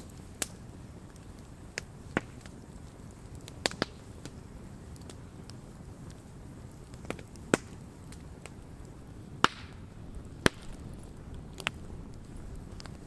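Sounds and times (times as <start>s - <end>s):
low steady fire noise: 0.0s - 13.0s
wood crackling and popping: 0.0s - 13.0s.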